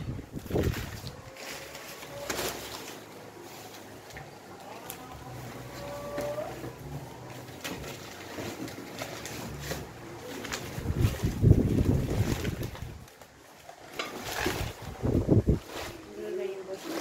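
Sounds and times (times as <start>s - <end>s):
rustling packing paper and plastic: 0.0s - 17.0s.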